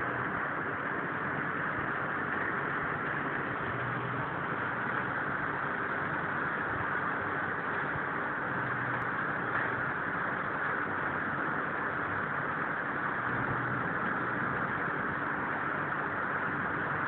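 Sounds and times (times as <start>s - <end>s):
electric fan whirring: 0.0s - 17.0s.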